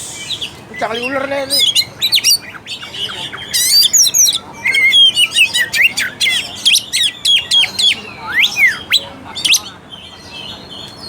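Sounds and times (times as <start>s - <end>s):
magpie-robin singing: 0.0s - 11.0s.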